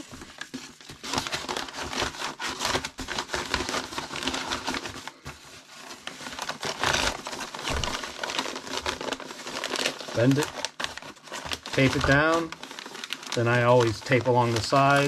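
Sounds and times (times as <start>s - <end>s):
padded mailer crinkling: 0.0s - 15.0s.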